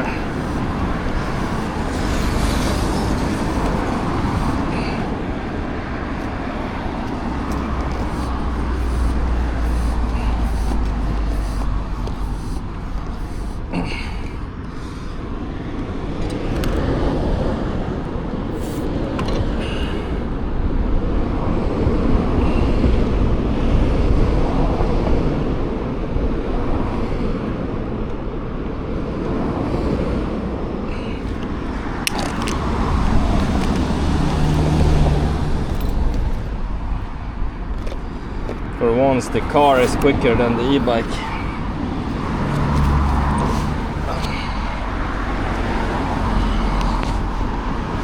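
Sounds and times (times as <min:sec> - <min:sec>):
cars passing: 0:00.0 - 0:48.0
road traffic: 0:00.0 - 0:48.0
wind rumbling over microphone: 0:00.0 - 0:48.0.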